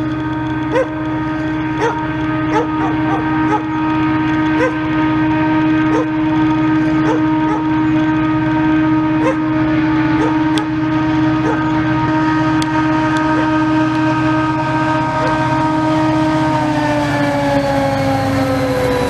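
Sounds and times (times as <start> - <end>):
constant humming tone: 0.0 - 19.0
diesel locomotive engine droning: 0.0 - 19.0.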